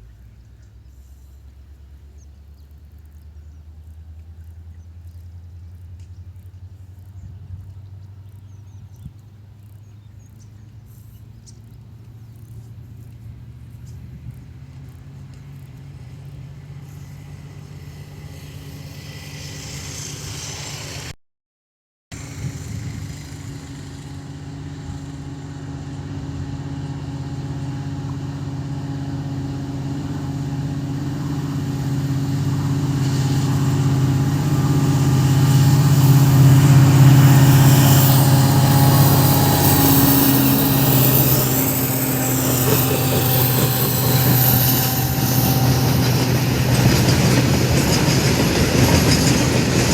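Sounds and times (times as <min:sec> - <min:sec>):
diesel locomotive engine humming: 0:02.8 - 0:21.2, 0:22.2 - 0:49.9.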